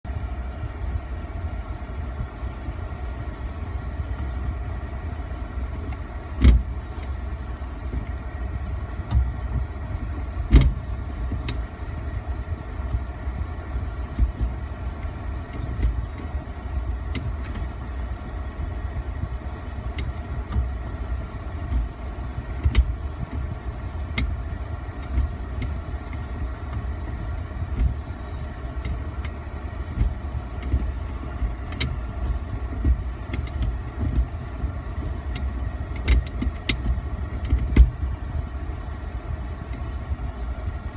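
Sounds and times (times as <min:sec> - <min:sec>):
engine idling: 0:00.1 - 0:40.9
gearbox grinding clunks: 0:05.8 - 0:11.8, 0:12.9 - 0:18.0, 0:19.1 - 0:40.9.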